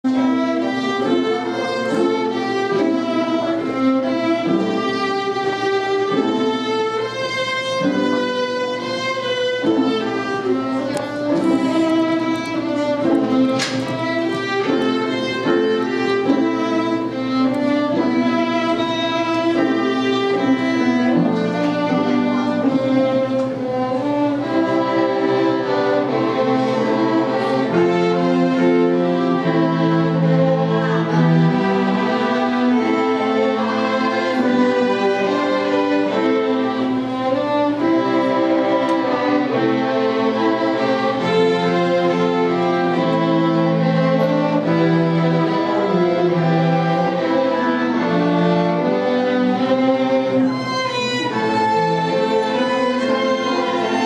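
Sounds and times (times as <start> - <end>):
string ensemble playing: 0.0 - 54.0.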